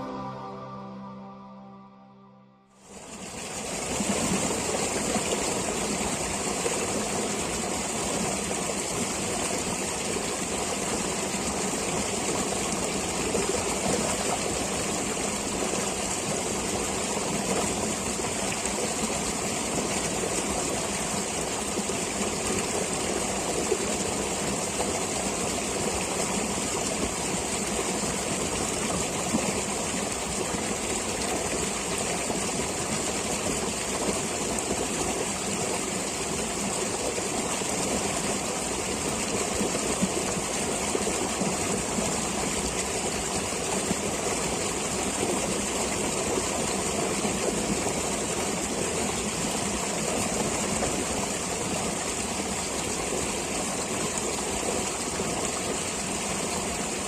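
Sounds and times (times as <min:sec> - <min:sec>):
stream water rushing: 0:00.0 - 0:01.1, 0:02.8 - 0:57.0.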